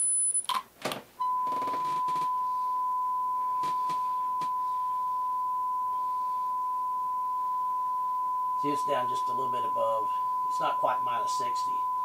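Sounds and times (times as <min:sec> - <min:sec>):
high test tone: 0:00.0 - 0:00.5, 0:01.2 - 0:12.0
steady sine tone: 0:00.0 - 0:00.5, 0:01.2 - 0:12.0.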